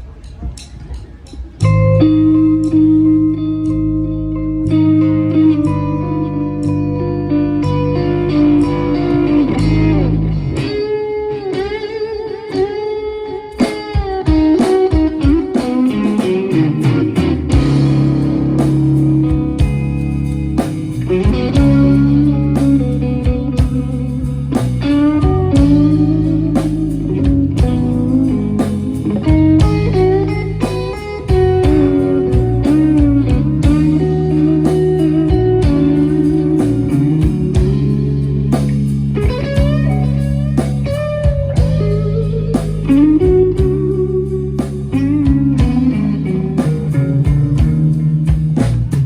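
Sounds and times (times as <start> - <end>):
bass line: 0.0 - 11.2, 14.4 - 49.0
drums: 0.0 - 49.0
electric guitar solo: 1.6 - 49.0.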